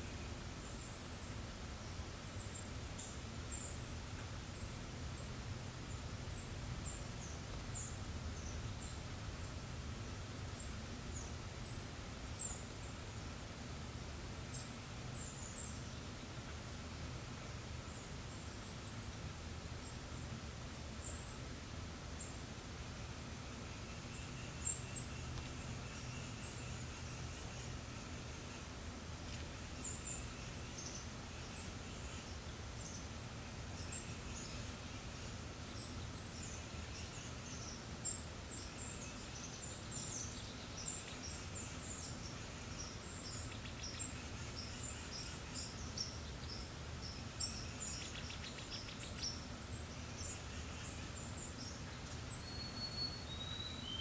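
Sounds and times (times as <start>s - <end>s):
steady low hum: 0.0s - 52.4s
small birds chirping: 0.0s - 54.0s.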